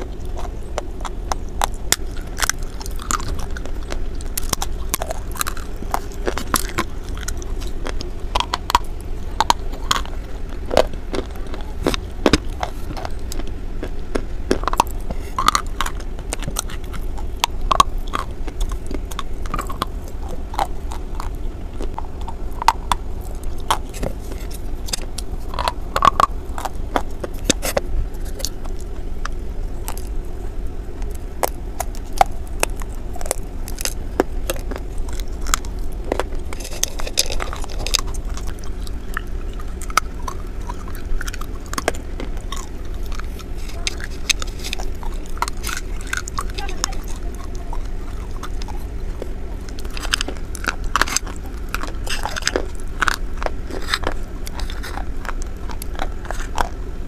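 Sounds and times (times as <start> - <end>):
crunchy chewing: 0.0 - 57.0
steady low hum: 0.0 - 57.0.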